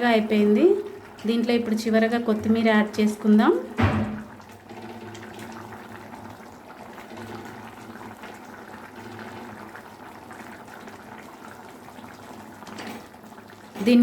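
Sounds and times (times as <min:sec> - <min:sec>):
curry bubbling in a pan: 0:00.0 - 0:14.0.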